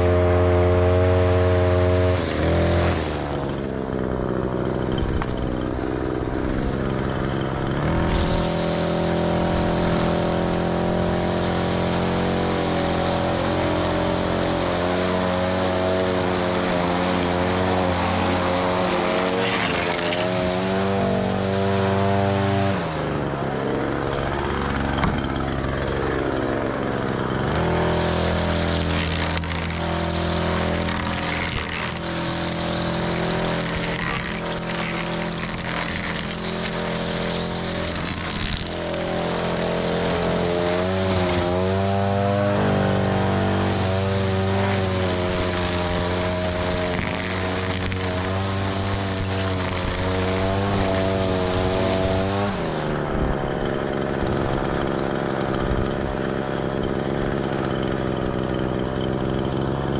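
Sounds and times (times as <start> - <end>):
string trimmer engine revving: 0.0 - 59.9.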